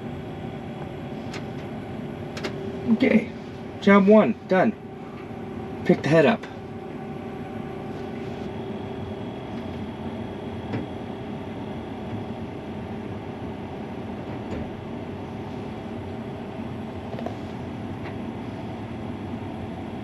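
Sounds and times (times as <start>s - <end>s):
combine harvester cab drone: 0.0s - 20.0s.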